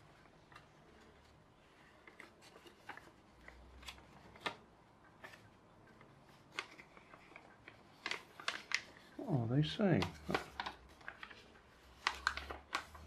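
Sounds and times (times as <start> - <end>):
paper folding and crinkling: 0.0 - 13.0.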